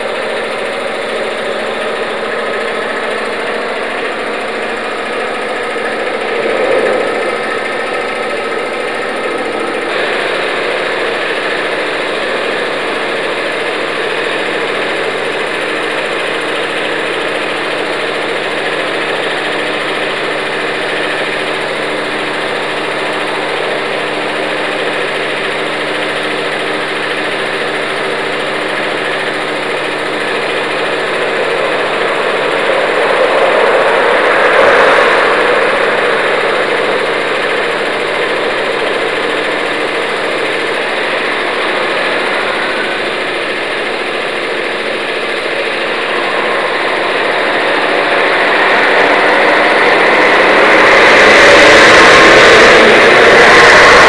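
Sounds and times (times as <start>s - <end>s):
motor engine running: 0.0s - 54.0s.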